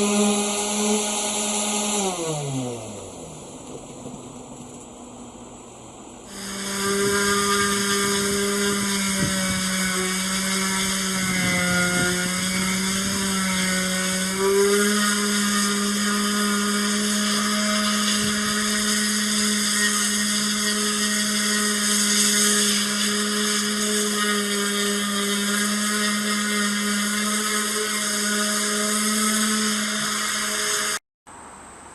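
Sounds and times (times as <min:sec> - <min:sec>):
power sander whining: 0:00.0 - 0:04.7, 0:06.2 - 0:31.0.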